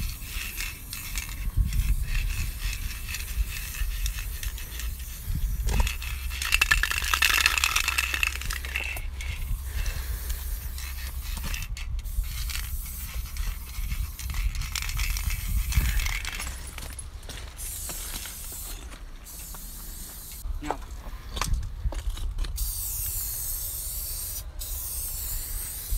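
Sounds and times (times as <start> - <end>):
spray-paint can hissing: 0.0 - 16.3, 17.6 - 18.7, 19.3 - 20.4, 22.6 - 25.9.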